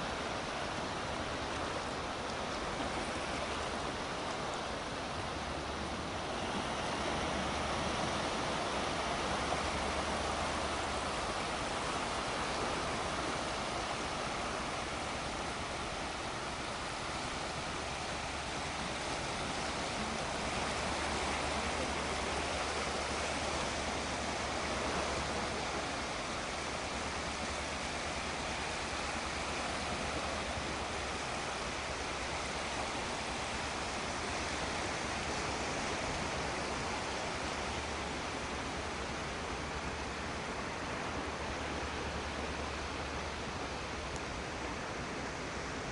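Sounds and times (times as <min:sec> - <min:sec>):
small waves washing on sand: 0:00.0 - 0:45.9.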